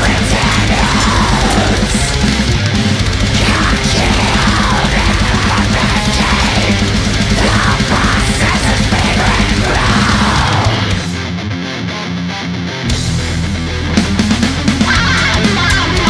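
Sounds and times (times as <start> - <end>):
fast drums: 0.0 - 11.3, 12.9 - 16.0
distorted metal guitar and bass: 0.0 - 16.0.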